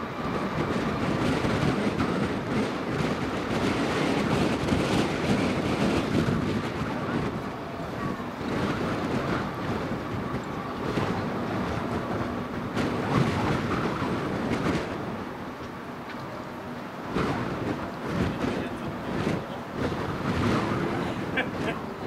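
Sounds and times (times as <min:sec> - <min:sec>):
distant jet engines rumbling: 0:00.0 - 0:22.0
wind buffeting microphone: 0:00.0 - 0:22.0.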